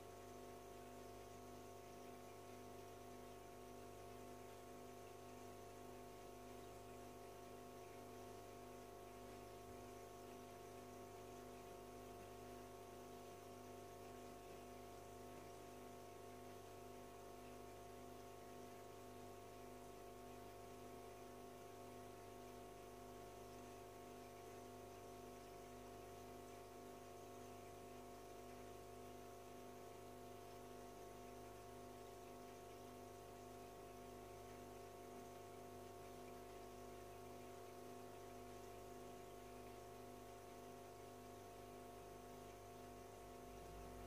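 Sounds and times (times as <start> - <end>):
aquarium filter pump hum: 0.0 - 44.0.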